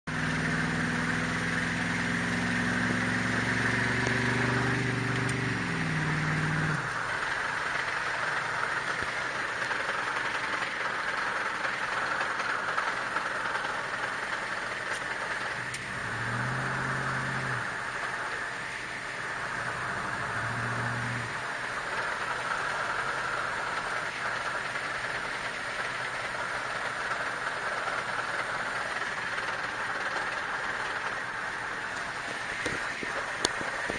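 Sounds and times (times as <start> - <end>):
low drivetrain hum: 0.0 - 33.9
road and drivetrain noise: 0.0 - 33.9.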